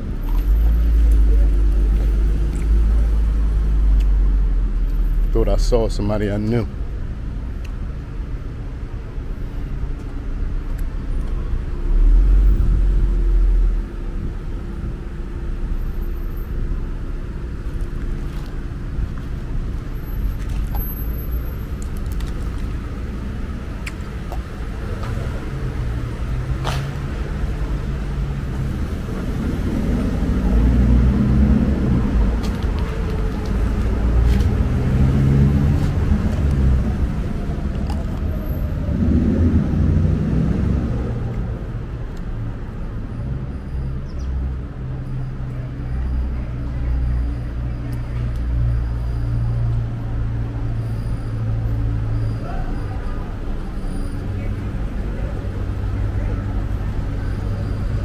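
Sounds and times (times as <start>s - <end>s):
traffic engines rumbling: 0.0s - 58.0s.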